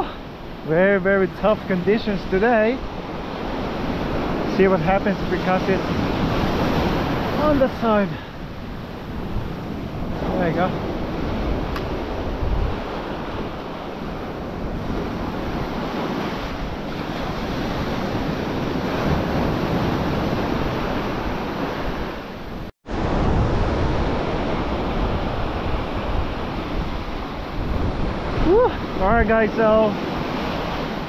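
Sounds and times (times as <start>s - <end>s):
surf breaking on a beach: 0.0s - 31.0s
wind on the microphone: 2.2s - 31.0s.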